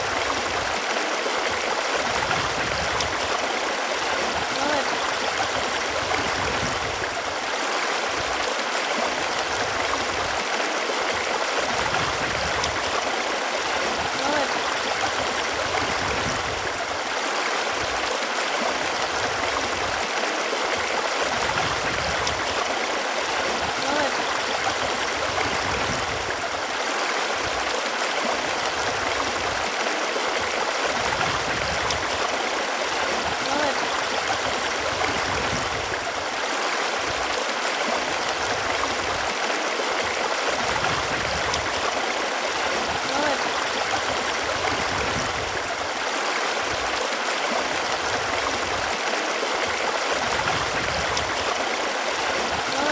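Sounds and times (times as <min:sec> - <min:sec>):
running water: 0:00.0 - 0:52.9.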